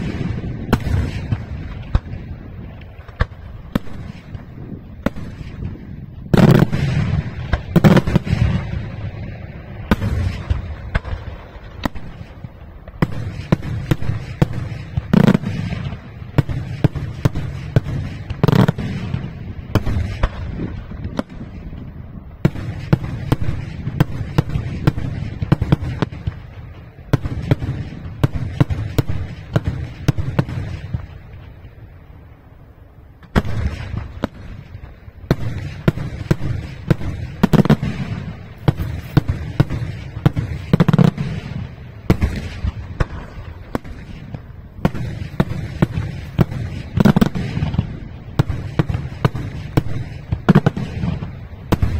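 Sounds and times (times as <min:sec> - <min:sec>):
fireworks bursting with sharp bangs: 0:00.0 - 0:51.9
heavy fireworks reports: 0:00.0 - 0:51.9.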